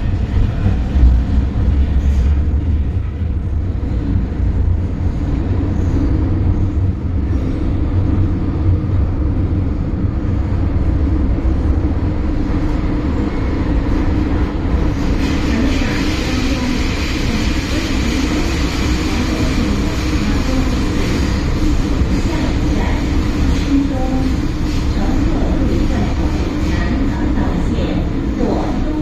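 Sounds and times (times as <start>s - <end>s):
train cabin deep rumble: 0.0s - 29.0s.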